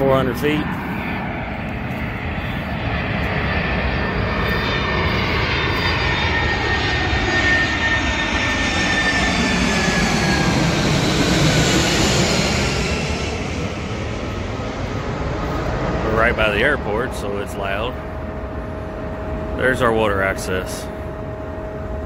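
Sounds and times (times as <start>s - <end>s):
jet airliner flying overhead: 0.0s - 22.0s.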